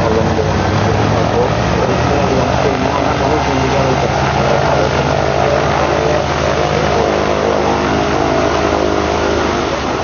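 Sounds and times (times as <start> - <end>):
propeller aircraft engine drone: 0.0 - 10.0.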